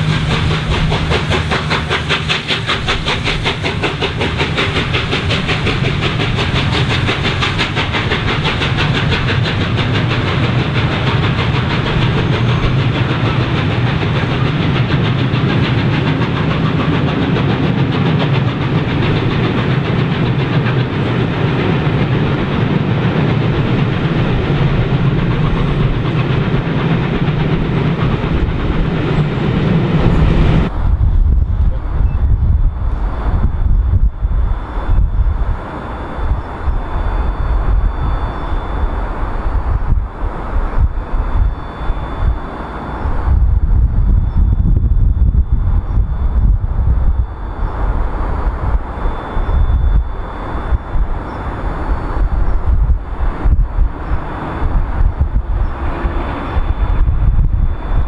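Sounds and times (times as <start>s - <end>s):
steam locomotive exhaust beats: 0.0s - 58.0s
train coaches rumbling past: 0.0s - 58.0s.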